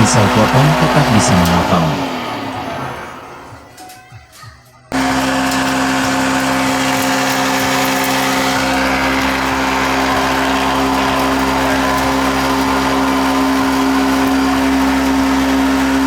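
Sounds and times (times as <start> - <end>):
electric motor humming: 0.0 - 3.8, 4.9 - 16.0
whirring blade: 0.0 - 16.0.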